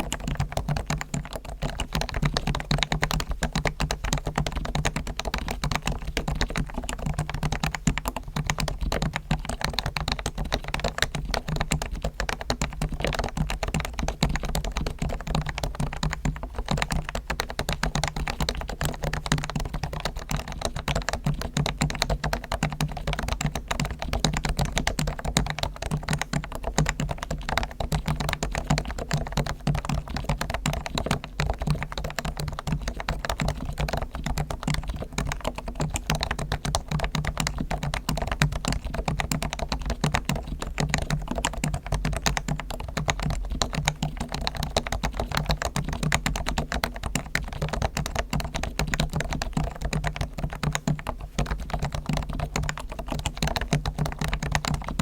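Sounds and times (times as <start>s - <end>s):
fast keyboard typing: 0.0s - 55.0s.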